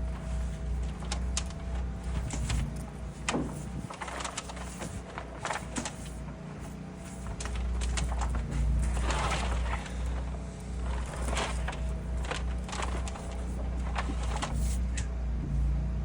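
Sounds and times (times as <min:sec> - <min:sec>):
backhoe diesel engine running: 0:00.0 - 0:16.0.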